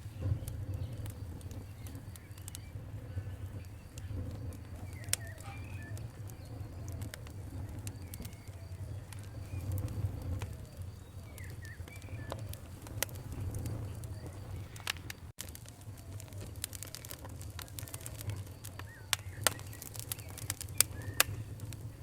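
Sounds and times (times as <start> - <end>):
birds calling: 0.0 - 15.3, 15.9 - 21.6
campfire crackling and popping: 0.0 - 22.0
low steady rumble: 0.0 - 22.0.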